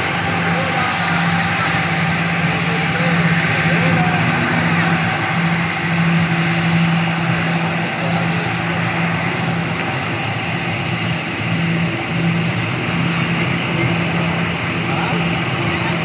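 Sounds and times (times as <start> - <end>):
aircraft engines running: 0.0 - 16.0.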